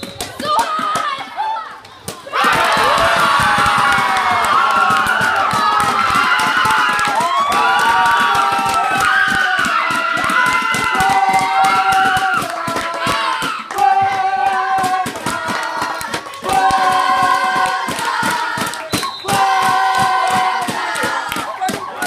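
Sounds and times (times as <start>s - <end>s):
group chanting a cheer: 0.4s - 22.0s
fast hand-clapping: 2.1s - 22.0s.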